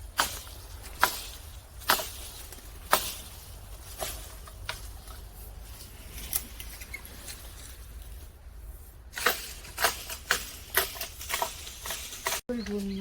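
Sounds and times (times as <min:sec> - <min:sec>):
sharp rustling strokes: 0:00.0 - 0:12.5.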